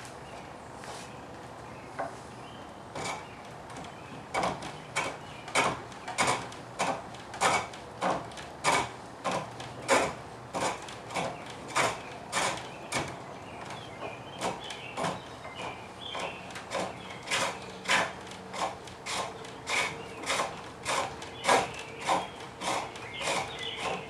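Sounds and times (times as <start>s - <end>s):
turning tool scraping wood: 2.9s - 24.0s.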